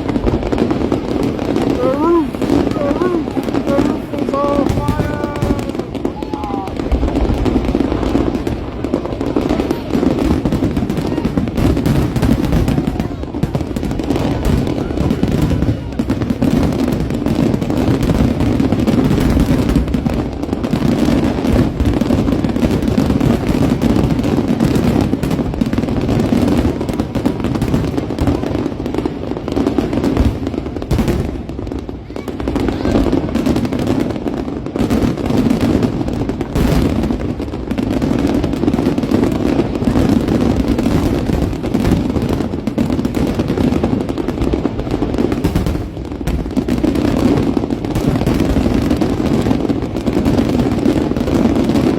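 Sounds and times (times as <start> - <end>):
fireworks popping and booming: 0.0 - 51.9.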